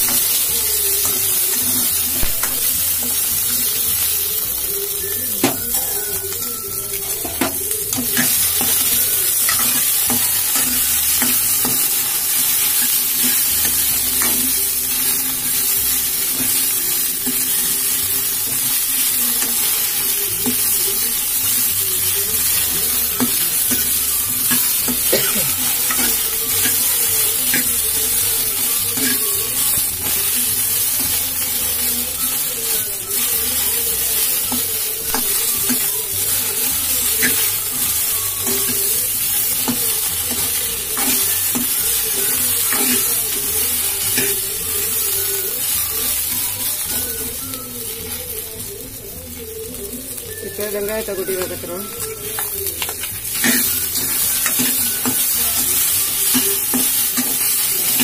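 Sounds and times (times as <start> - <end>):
okra sizzling in oil: 0.0 - 58.0.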